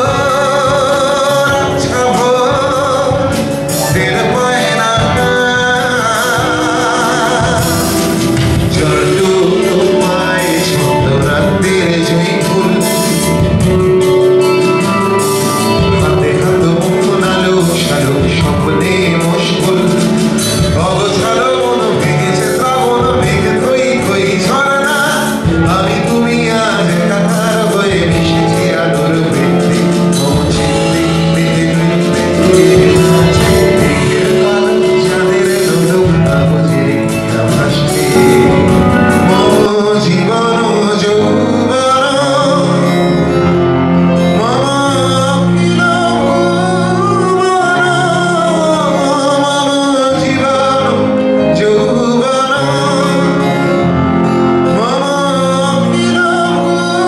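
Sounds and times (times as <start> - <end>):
keyboard and band accompaniment: 0.0 - 57.0
man singing into a microphone: 0.0 - 57.0.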